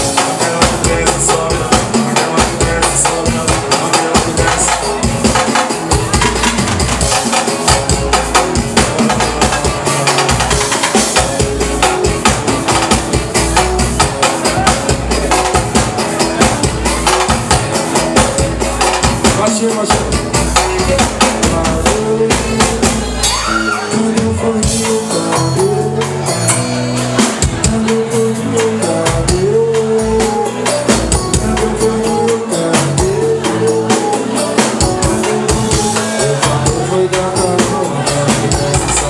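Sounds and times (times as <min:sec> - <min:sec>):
man singing into microphone: 0:00.0 - 0:12.6, 0:17.3 - 0:39.0
bass line: 0:00.0 - 0:39.0
drums and percussion: 0:00.0 - 0:39.0
live band playing upbeat song: 0:00.0 - 0:39.0.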